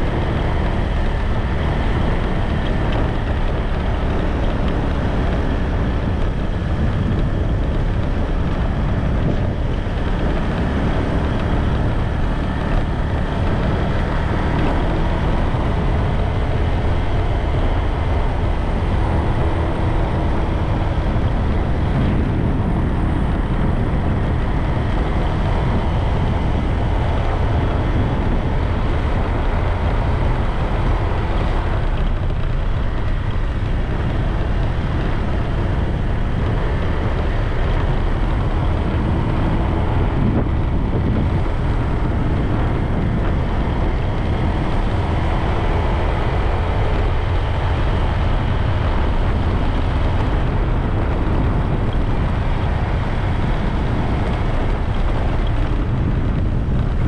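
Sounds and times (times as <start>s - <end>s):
bike road noise: 0.0s - 57.0s
wind buffeting microphone: 0.0s - 57.0s.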